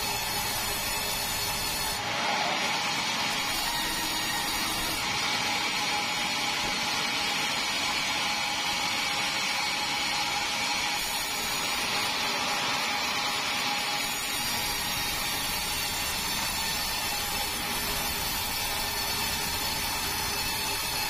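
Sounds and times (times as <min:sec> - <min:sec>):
band saw running: 0:00.0 - 0:21.0.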